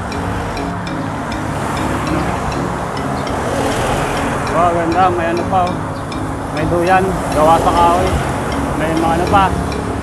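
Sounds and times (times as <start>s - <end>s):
bicycle ride rumble: 0.0s - 10.0s.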